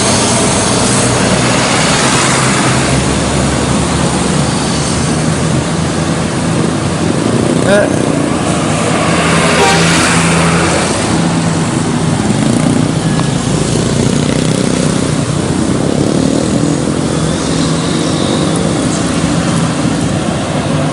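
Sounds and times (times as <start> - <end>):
vehicle engines passing: 0.0 - 20.9.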